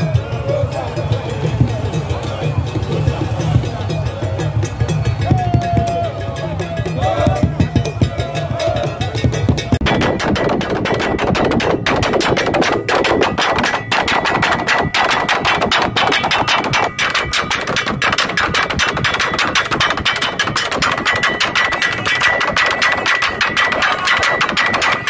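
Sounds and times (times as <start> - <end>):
drums beaten fast: 0.0 - 25.0.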